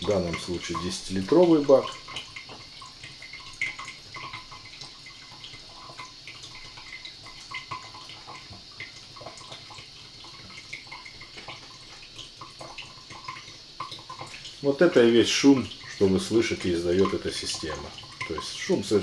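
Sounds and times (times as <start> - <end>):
water dripping: 0.0 - 19.0
water trickling: 0.0 - 19.0.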